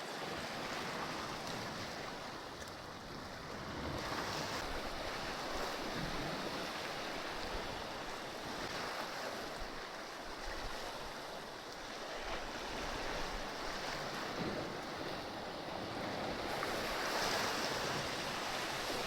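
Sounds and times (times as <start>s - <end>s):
waves washing against rocks: 0.0s - 19.0s.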